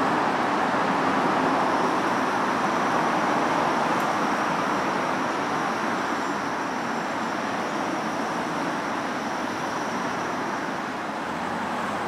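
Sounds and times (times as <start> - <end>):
road traffic hiss: 0.0 - 12.0.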